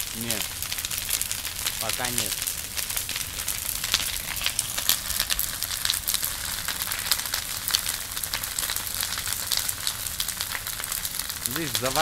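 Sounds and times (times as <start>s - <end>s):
bonfire hissing and crackling: 0.0s - 12.0s.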